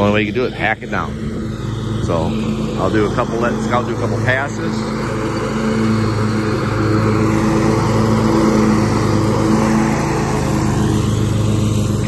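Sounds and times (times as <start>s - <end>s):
mower engine drone with hiss: 0.0s - 12.0s.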